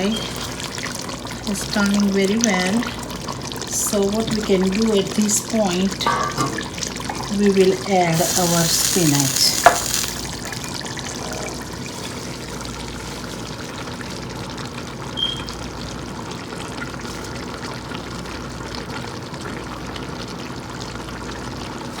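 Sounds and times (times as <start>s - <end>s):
curry simmering in a pot: 0.0s - 22.0s.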